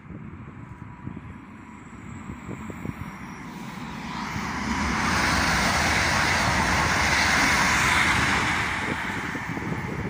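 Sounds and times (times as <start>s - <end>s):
high-speed train passing: 0.1s - 10.0s.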